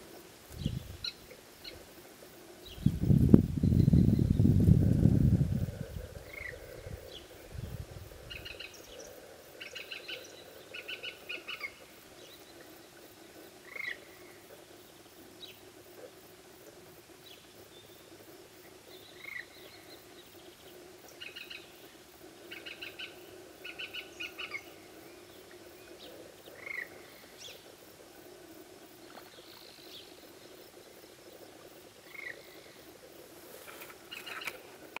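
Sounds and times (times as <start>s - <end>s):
faint low background noise: 0.0s - 35.0s
small birds chirping: 0.5s - 35.0s.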